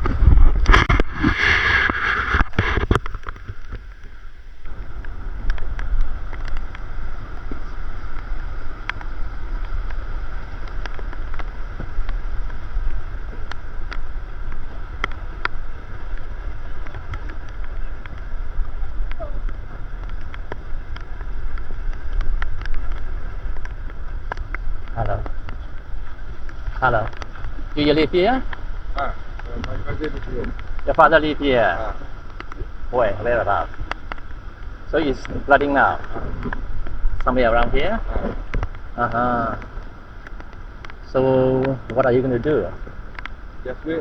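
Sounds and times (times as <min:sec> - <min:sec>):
faint clicks: 0:00.0 - 0:44.0
wind buffeting microphone: 0:00.0 - 0:44.0.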